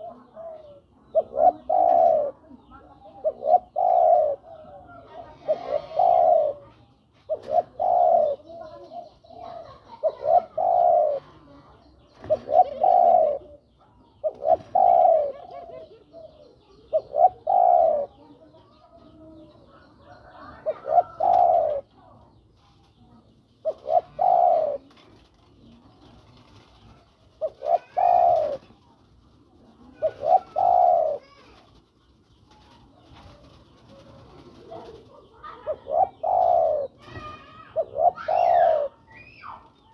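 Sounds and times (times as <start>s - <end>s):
dove cooing: 0.0s - 22.3s, 22.9s - 31.8s, 32.5s - 39.9s.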